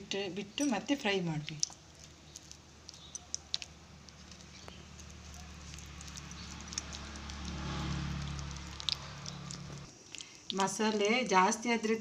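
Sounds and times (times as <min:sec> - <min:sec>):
wet paste squishing: 0:01.4 - 0:11.2.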